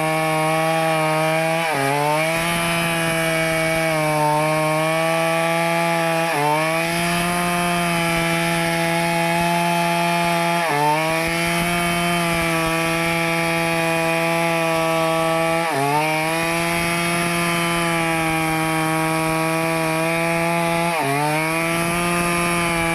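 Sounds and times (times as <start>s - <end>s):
chainsaw cutting wood: 0.0s - 22.9s.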